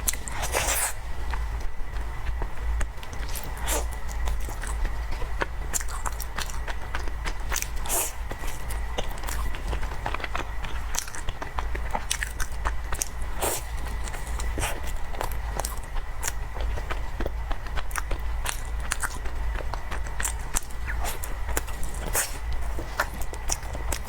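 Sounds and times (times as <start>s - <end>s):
person chewing: 0.0s - 24.0s
steady low hum: 0.0s - 24.0s.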